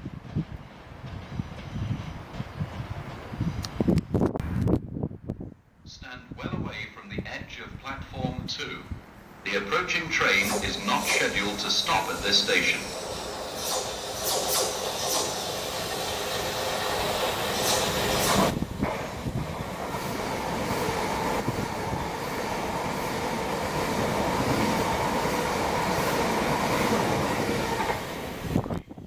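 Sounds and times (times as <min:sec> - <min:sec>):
train wheels on rails: 0:00.0 - 0:04.8, 0:09.5 - 0:28.8.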